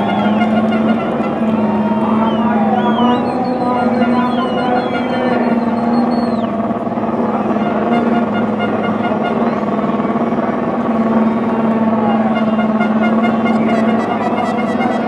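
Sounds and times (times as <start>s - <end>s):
racing car engines running: 0.0s - 15.0s.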